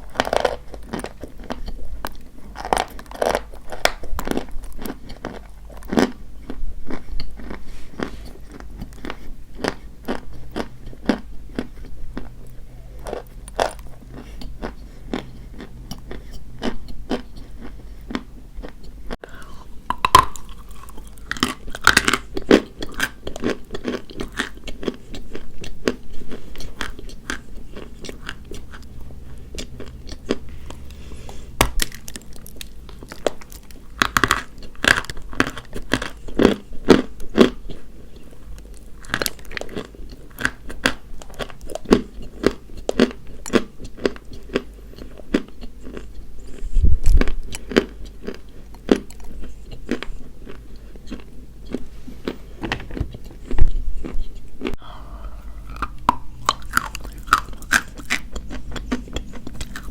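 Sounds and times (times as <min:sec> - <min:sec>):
chalk being chewed: 0:00.0 - 0:52.5, 0:55.4 - 0:59.9.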